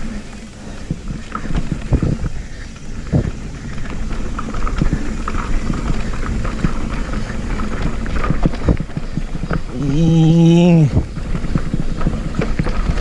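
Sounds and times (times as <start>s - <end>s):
mountain bike rattling: 0.0s - 13.0s
wind rumble on microphone: 0.0s - 13.0s.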